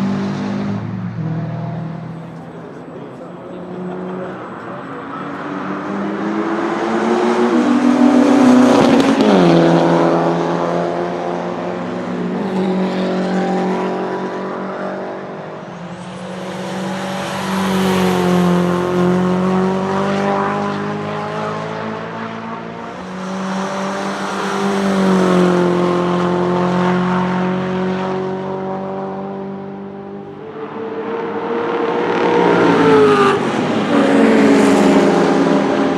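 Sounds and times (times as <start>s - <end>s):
racing cars passing: 0.0s - 35.9s.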